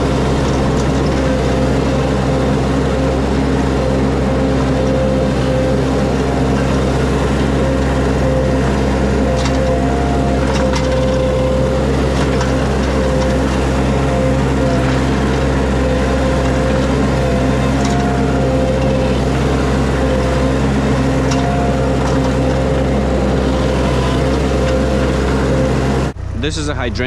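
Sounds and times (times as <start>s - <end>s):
skid steer engine running: 0.0s - 27.0s.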